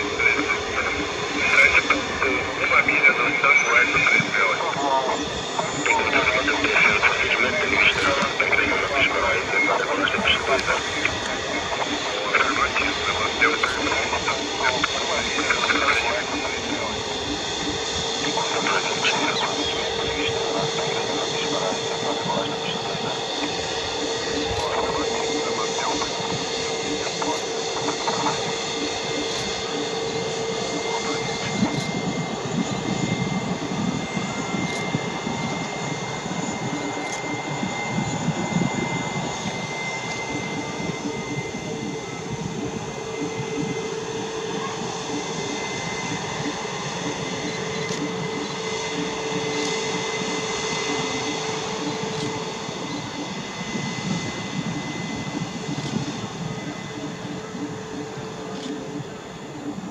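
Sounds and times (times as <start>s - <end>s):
jet engine whine: 0.0s - 59.9s.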